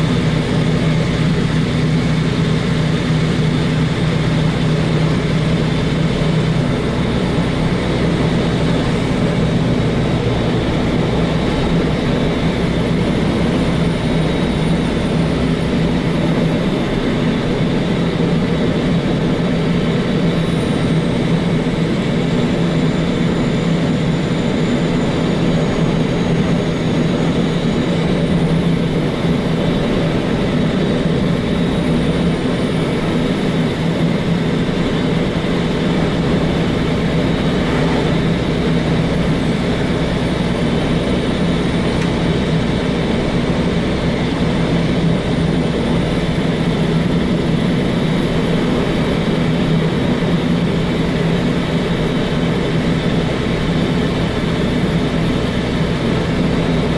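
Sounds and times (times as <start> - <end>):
road and wind noise: 0.0 - 56.9
truck diesel engine running: 0.0 - 56.9.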